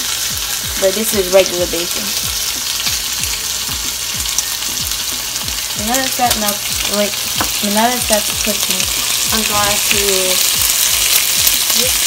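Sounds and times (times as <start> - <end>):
bacon sizzling in a skillet: 0.0 - 12.0.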